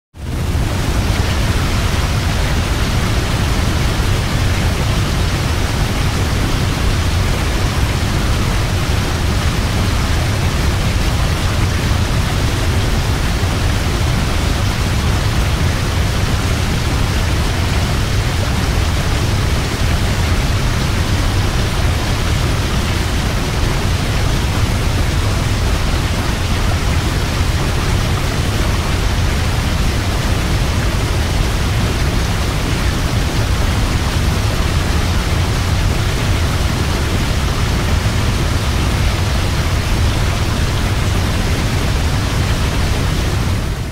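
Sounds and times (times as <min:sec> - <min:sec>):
waterfall rushing: 0:00.2 - 0:43.9.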